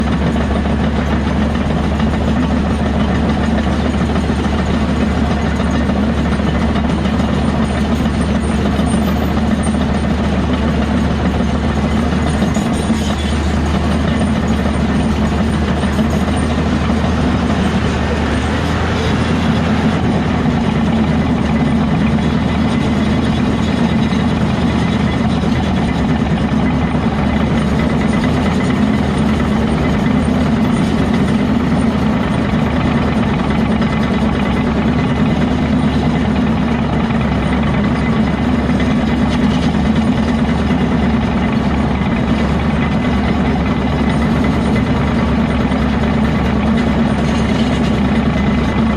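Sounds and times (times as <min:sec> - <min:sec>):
heavy diesel machinery engine drone: 0:00.0 - 0:48.9.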